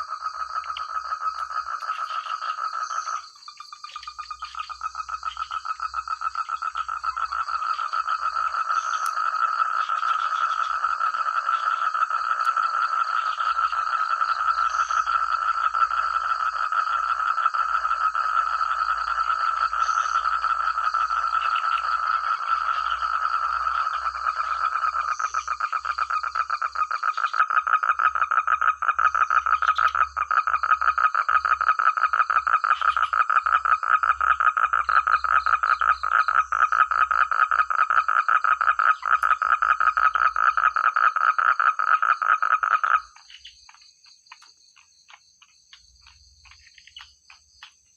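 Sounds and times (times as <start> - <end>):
frogs calling in trills: 0.0 - 47.9.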